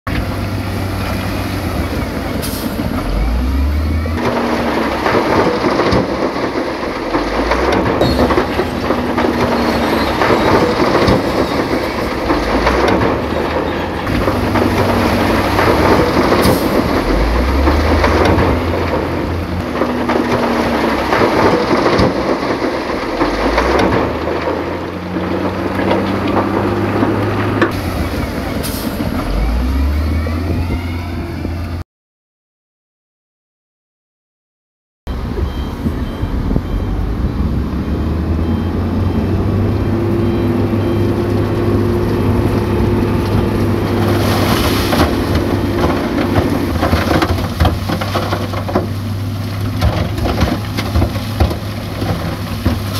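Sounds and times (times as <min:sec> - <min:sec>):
continuous heavy rumble: 0:00.1 - 0:31.8, 0:35.1 - 0:52.9
heavy machinery engines revving: 0:00.1 - 0:31.8, 0:35.1 - 0:52.9.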